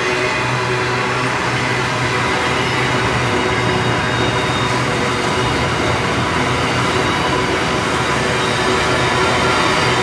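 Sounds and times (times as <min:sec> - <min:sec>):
freight train rolling past: 0:00.0 - 0:10.0.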